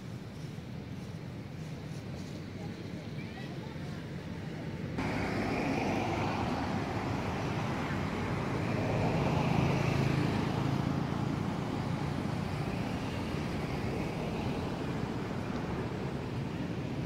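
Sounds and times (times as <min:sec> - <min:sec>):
distant traffic engine drone: 0:00.0 - 0:17.0.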